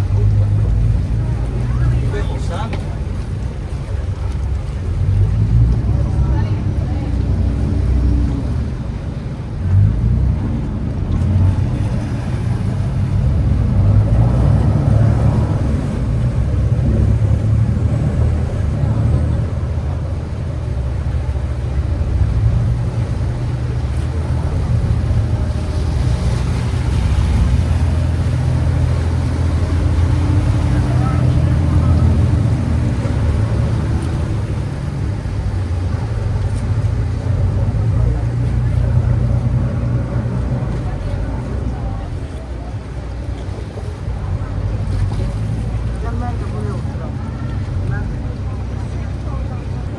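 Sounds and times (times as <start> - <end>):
motorboat engine rumble: 0.0 - 49.9.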